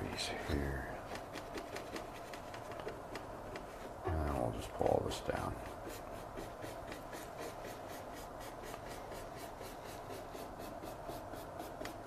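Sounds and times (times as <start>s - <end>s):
paintbrush stroking on canvas: 0.0s - 12.0s.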